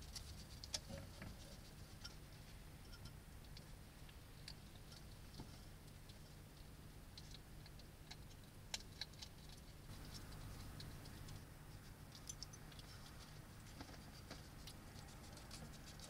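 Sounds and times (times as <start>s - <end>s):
hedgehog feeding clicks and crackles: 0.0s - 16.0s
low steady hum: 0.0s - 16.0s.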